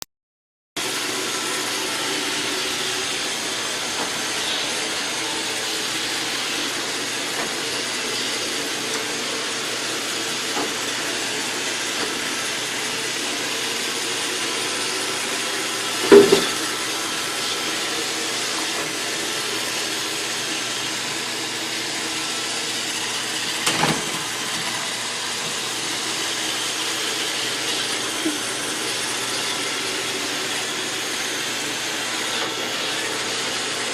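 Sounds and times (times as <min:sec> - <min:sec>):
robot vacuum motor whir: 0:00.8 - 0:33.9.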